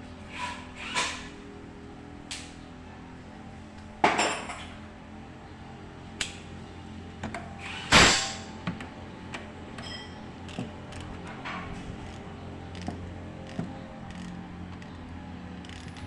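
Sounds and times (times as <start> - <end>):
steady low hum: 1.3 - 16.0.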